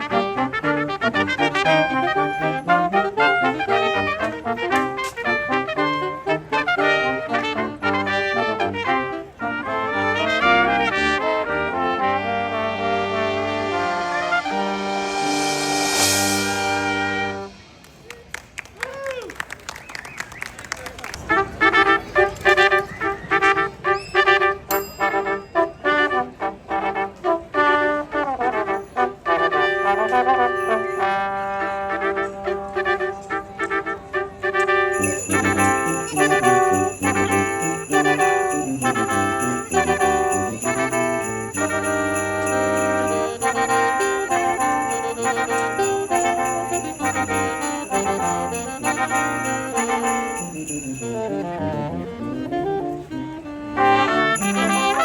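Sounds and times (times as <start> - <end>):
brass band playing a carol: 0.0 - 17.8, 21.2 - 55.0.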